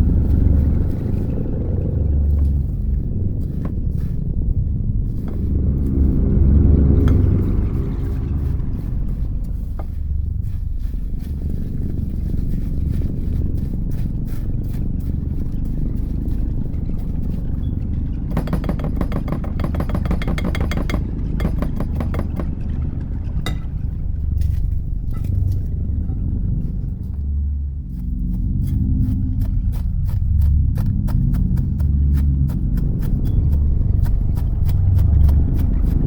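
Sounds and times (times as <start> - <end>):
low rumble of mixing: 0.0 - 36.0.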